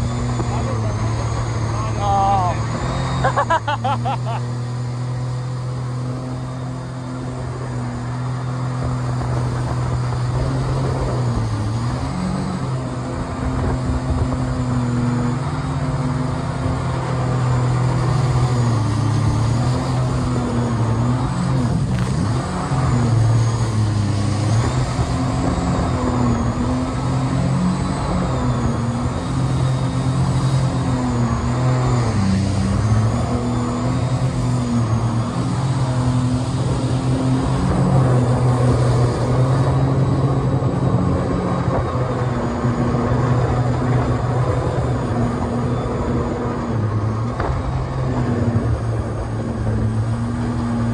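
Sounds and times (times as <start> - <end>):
boat engine running: 0.0 - 50.9
water rushing along hull: 0.0 - 50.9.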